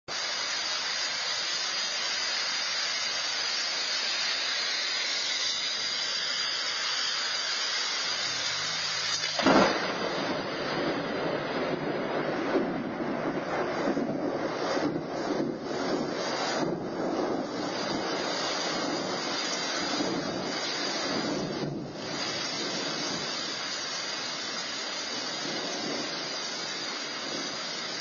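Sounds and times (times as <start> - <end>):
thunderstorm hiss: 0.1 - 28.0.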